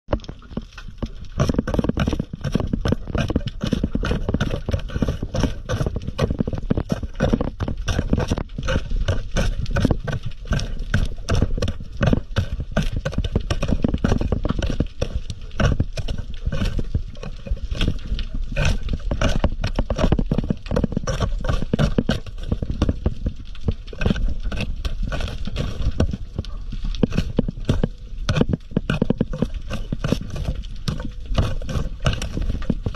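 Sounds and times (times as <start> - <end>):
low rumble of moving water: 0.1 - 32.9.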